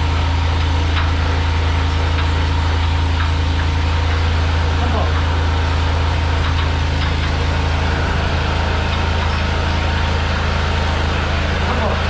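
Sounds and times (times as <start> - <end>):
jetter engine humming: 0.0 - 12.0.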